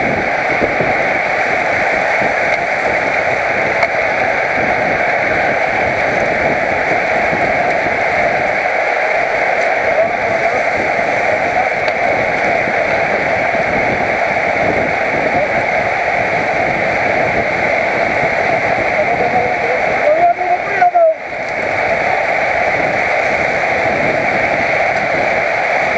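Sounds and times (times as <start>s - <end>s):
wind noise over microphone: 0.0s - 25.9s.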